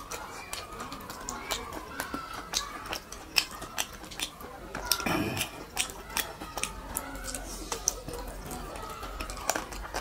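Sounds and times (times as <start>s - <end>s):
person chewing: 0.0s - 10.0s
wet lip-smacking clicks: 0.0s - 10.0s.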